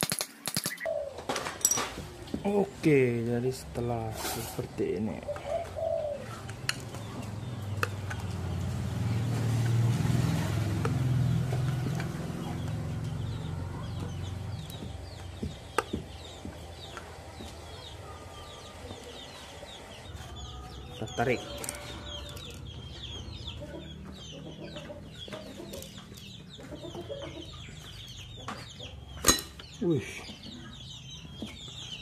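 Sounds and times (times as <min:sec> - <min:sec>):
chickens clucking: 0:03.9 - 0:32.0.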